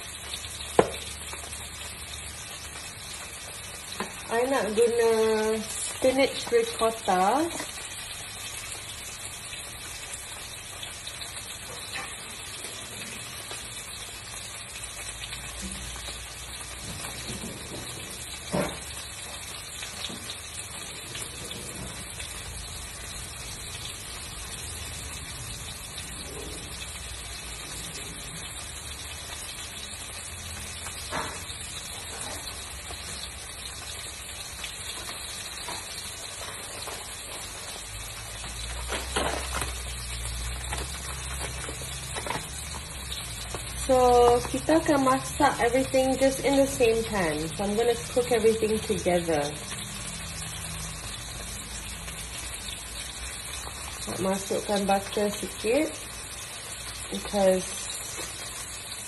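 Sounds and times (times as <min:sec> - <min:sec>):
fish sizzling in a pan: 0:00.0 - 0:59.0.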